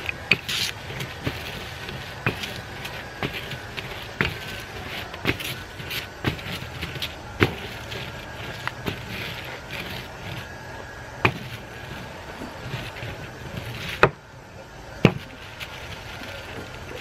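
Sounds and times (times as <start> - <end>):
mylar sheet crinkling: 0.0 - 14.1, 15.0 - 17.0.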